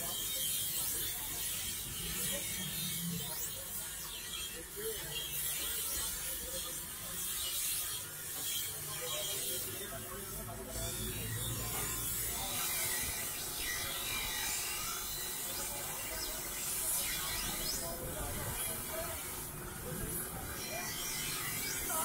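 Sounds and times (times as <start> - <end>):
knife grinding on bench grinder: 0.0 - 22.0.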